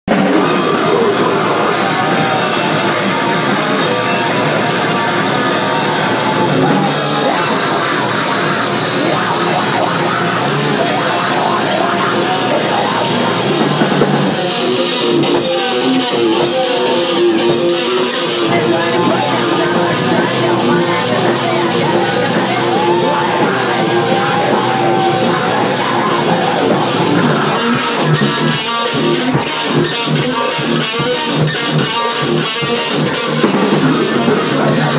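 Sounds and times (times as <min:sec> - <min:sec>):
electric guitars: 0:00.0 - 0:34.9
drum kit: 0:00.1 - 0:34.9.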